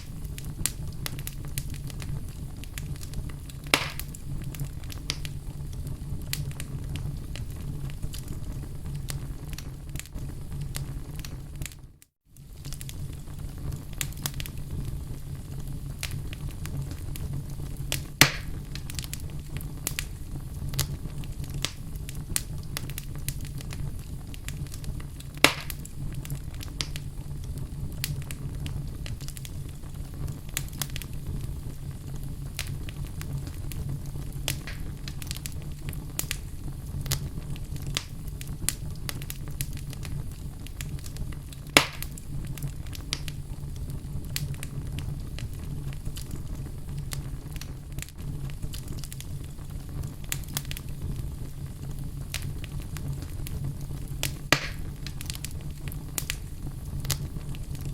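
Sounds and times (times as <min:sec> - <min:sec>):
loud fire pops: 0:00.0 - 0:57.9
low rumble of fire: 0:00.0 - 0:57.9
wood fire crackling: 0:00.0 - 0:57.9.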